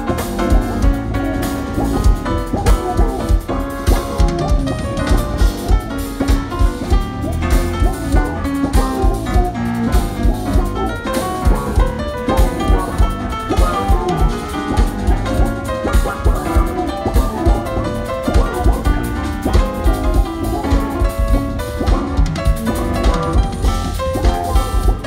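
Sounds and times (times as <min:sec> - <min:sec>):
drum kit beat: 0:00.0 - 0:25.0
electric bass: 0:00.0 - 0:25.0
keyboards: 0:00.0 - 0:25.0.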